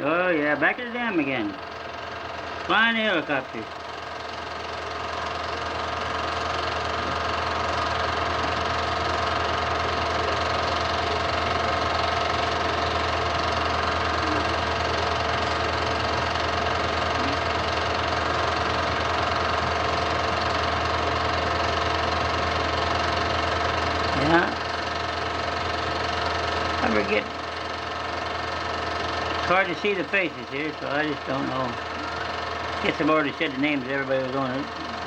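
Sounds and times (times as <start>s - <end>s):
film projector motor hum: 0.0s - 35.0s.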